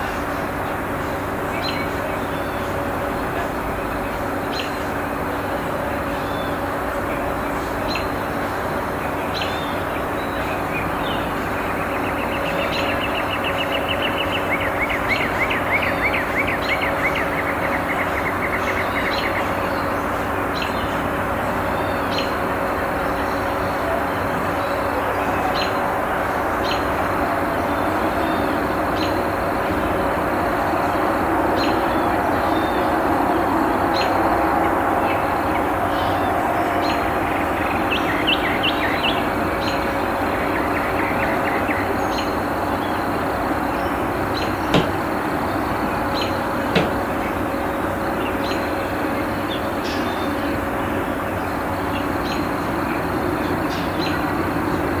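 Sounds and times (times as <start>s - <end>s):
birds chirping: 0.0s - 55.0s
traffic rumble: 0.0s - 55.0s.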